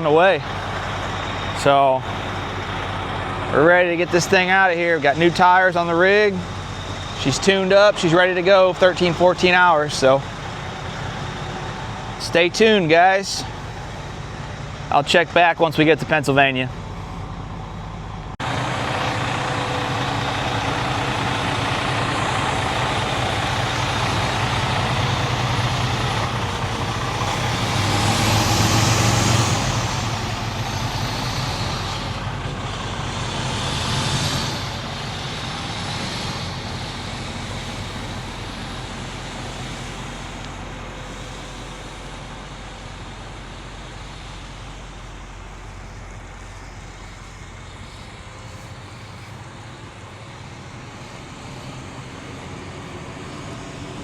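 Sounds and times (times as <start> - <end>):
high whine: 0.0 - 54.0
truck engine drone: 0.0 - 54.0.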